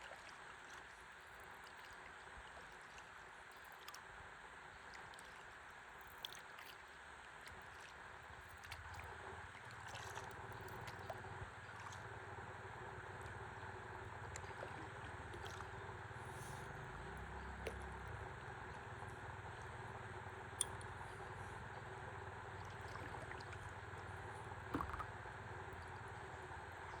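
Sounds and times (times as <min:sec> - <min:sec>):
river water lapping: 0:00.0 - 0:04.1, 0:04.7 - 0:27.0
small clicks and drips: 0:00.0 - 0:04.1, 0:04.8 - 0:27.0.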